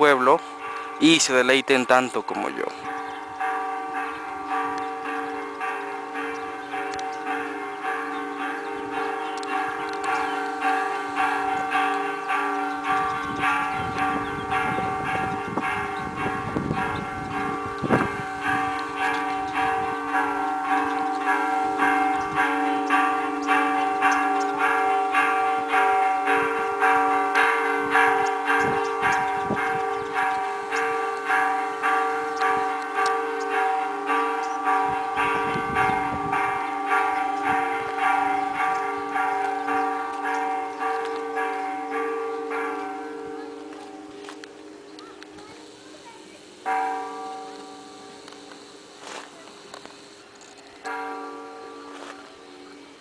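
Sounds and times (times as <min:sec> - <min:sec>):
church bells pealing: 0:00.0 - 0:53.0.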